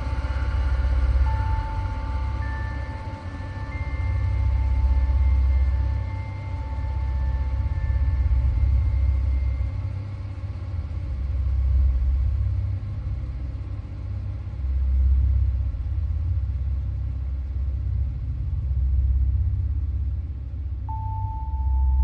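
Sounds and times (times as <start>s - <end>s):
deep low rumbling drone: 0.0s - 22.0s.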